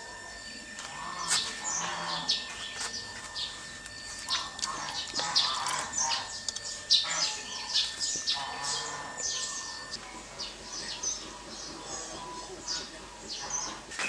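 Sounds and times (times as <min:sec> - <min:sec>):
thin steady high tone: 0:00.0 - 0:14.0
small birds chirping: 0:00.3 - 0:13.9.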